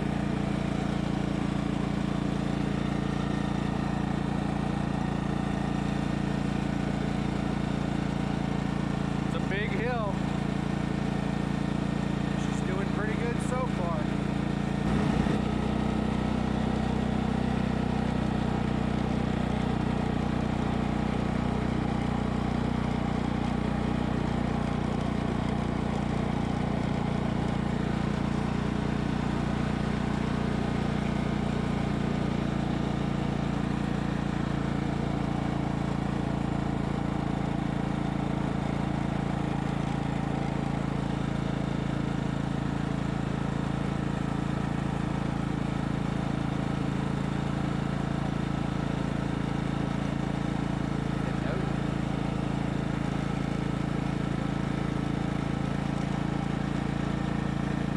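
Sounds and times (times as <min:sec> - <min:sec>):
riding lawn mower engine running: 0:00.0 - 0:57.9.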